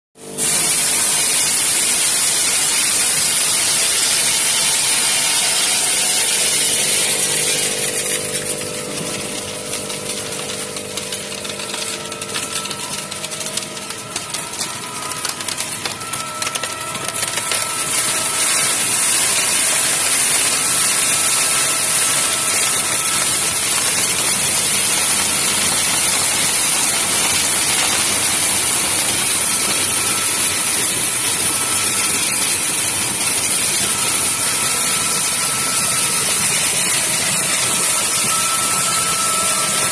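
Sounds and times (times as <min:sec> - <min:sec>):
plastic flakes rattling down chutes: 0:00.4 - 0:39.9.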